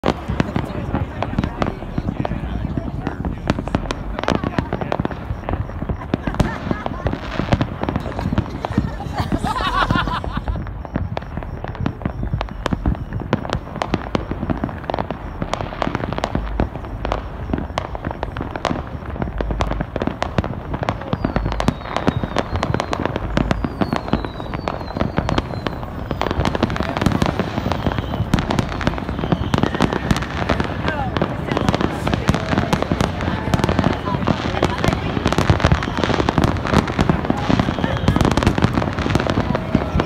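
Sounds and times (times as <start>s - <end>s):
faint firework whistles: 0.0s - 40.0s
fireworks crackling and banging: 0.0s - 40.0s.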